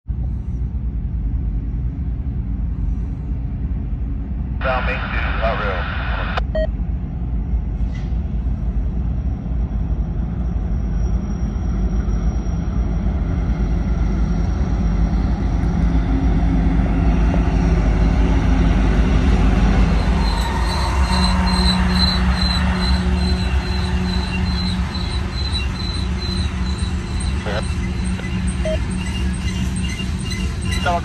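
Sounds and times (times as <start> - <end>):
diesel locomotive engines droning: 0.1 - 31.0.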